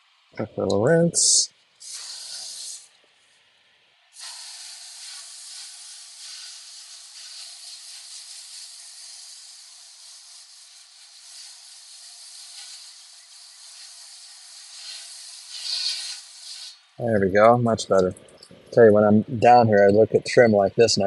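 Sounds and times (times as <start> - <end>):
hose nozzle spraying water: 0.6 - 3.1, 4.2 - 20.7.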